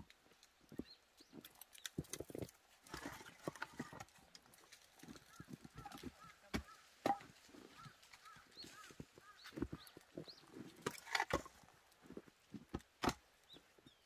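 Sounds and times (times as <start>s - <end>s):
small birds chirping: 0.0s - 10.8s, 13.4s - 14.0s.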